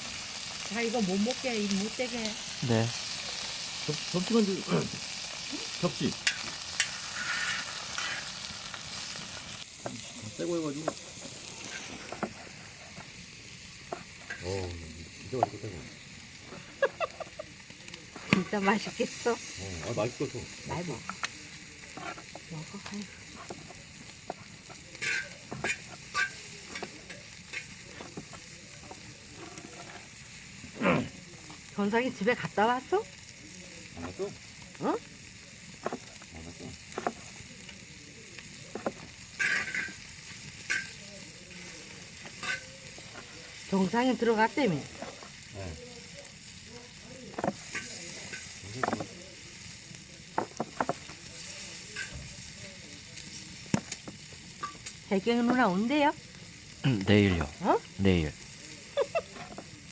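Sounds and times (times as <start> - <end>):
meat sizzling on hot metal: 0.0 - 59.9.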